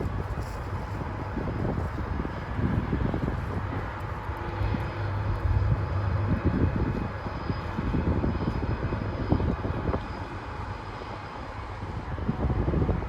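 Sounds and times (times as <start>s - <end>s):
engine drone: 0.0s - 13.0s
wind on microphone: 0.0s - 13.0s.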